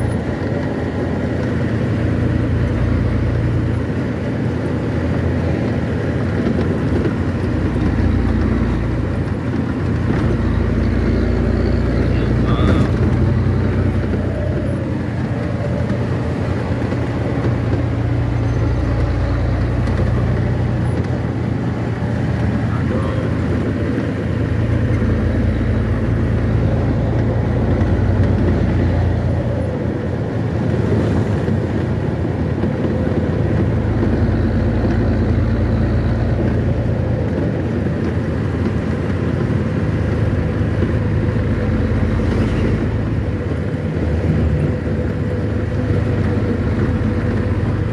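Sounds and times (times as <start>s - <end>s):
truck engine drone: 0.0s - 47.9s
tyres on road: 0.0s - 47.9s.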